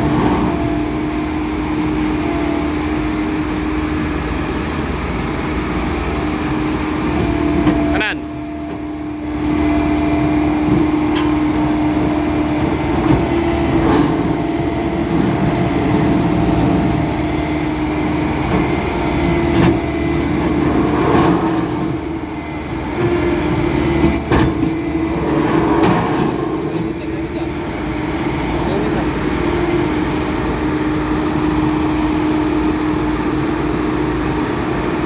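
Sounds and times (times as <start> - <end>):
roller diesel engine running: 0.0 - 35.0.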